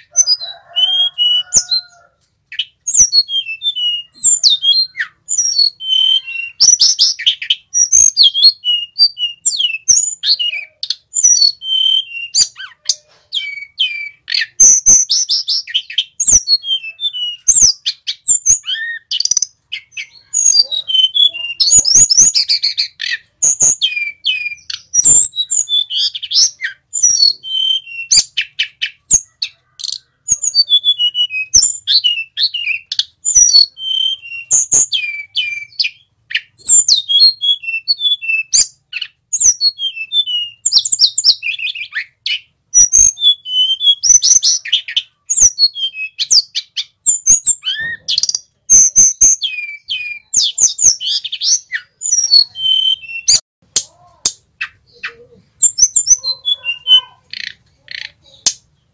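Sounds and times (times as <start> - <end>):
bird singing whistles and trills: 0.0 - 1.9, 2.5 - 53.4, 54.6 - 58.6.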